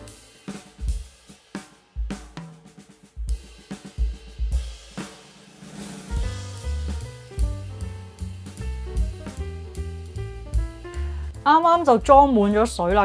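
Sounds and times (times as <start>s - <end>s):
drum-kit beat: 0.0s - 13.0s.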